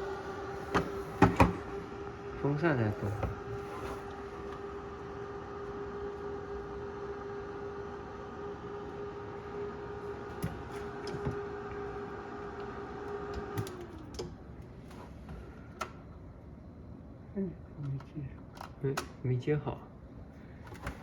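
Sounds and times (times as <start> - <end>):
refrigerator fan motor humming: 0.0 - 21.0.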